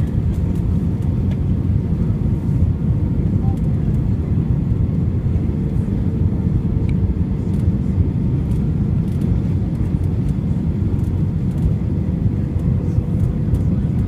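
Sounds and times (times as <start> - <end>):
airliner engines rumbling: 0.0 - 14.0.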